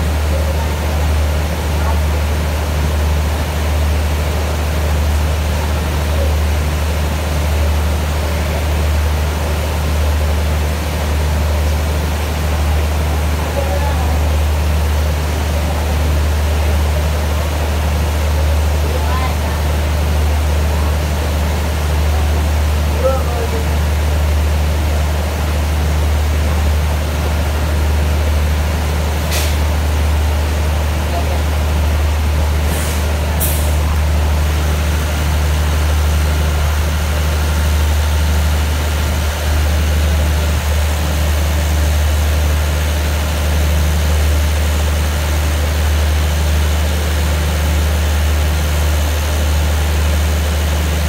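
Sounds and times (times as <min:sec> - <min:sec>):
low engine drone: 0:00.0 - 0:51.0.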